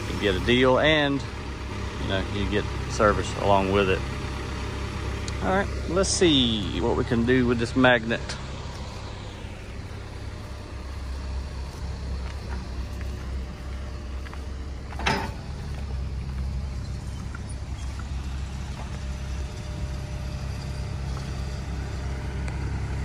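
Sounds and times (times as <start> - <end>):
excavator diesel engine idling: 0.0 - 23.0.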